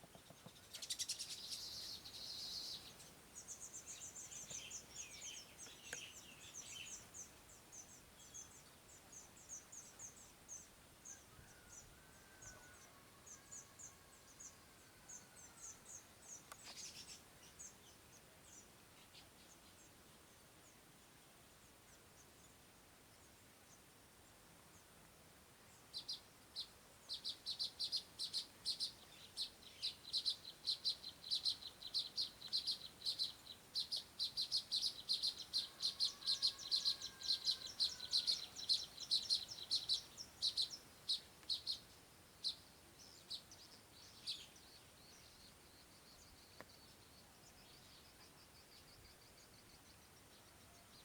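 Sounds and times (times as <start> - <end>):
small bird chirping: 0.0 - 11.6, 13.5 - 19.9, 25.8 - 51.0.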